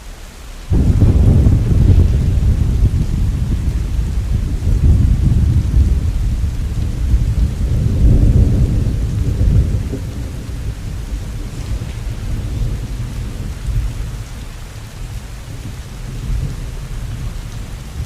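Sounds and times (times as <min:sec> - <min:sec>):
steady falling rain: 0:00.0 - 0:18.0
thunder rumbling: 0:00.7 - 0:18.0.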